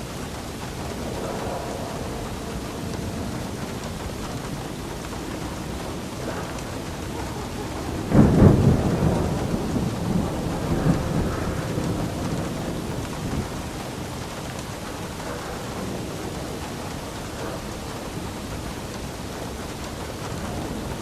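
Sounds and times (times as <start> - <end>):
steady rain falling: 0.0 - 21.0
thunderclap rumbling: 0.0 - 21.0.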